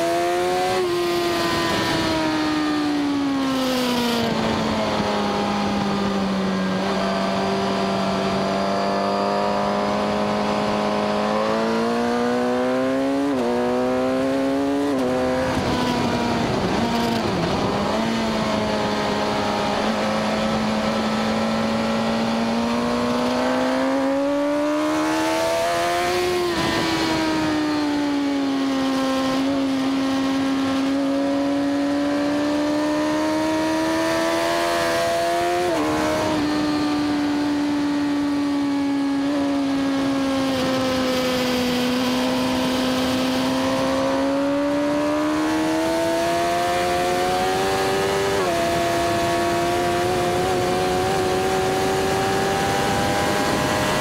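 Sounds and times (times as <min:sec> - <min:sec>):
motorcycle engine at speed: 0:00.0 - 0:54.0
wind rushing over microphone: 0:00.0 - 0:54.0.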